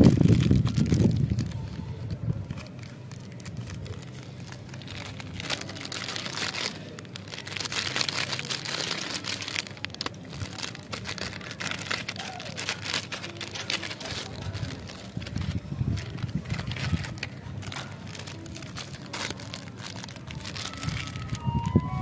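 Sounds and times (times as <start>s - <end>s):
plastic wrappers crinkling: 0.0s - 22.0s.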